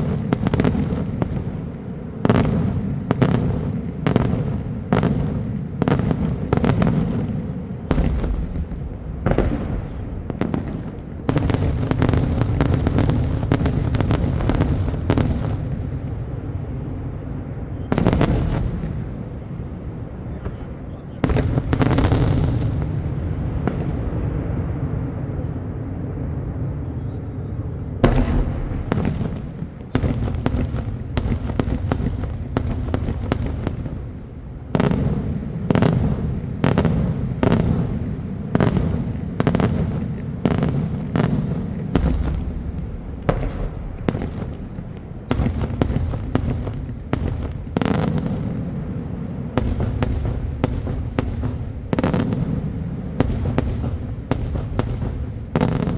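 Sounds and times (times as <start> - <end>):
echoing firework bangs: 0.0 - 19.6, 20.4 - 26.7, 27.7 - 55.9
firework blast rumbling: 0.0 - 55.9.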